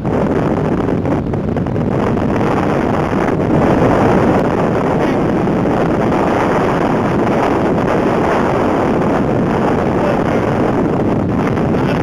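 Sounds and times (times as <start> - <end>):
blizzard wind on microphone: 0.0 - 12.0.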